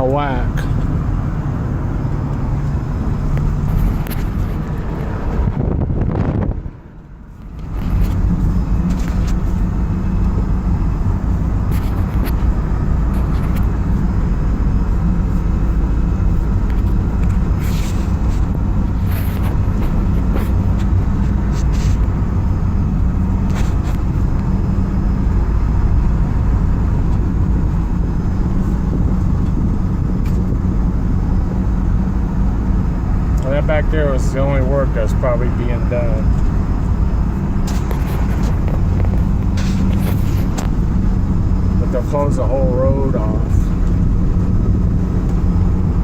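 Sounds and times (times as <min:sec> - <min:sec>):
engine and tyre rumble: 0:00.0 - 0:46.0.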